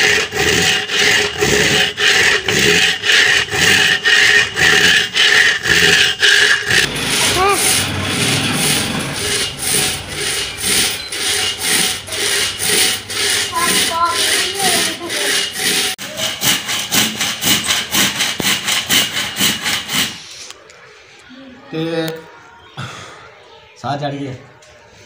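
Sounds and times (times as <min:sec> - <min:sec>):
hand saw cutting log: 0:00.0 - 0:20.3.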